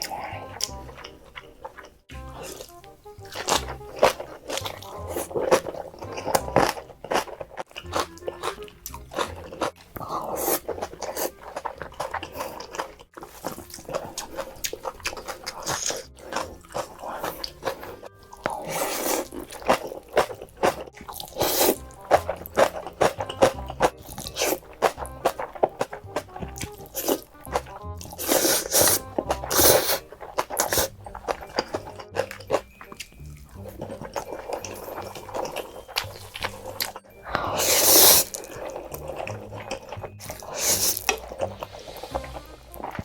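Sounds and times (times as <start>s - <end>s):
crunching and chewing noodles: 0.0s - 43.0s
quiet background music: 0.0s - 43.0s.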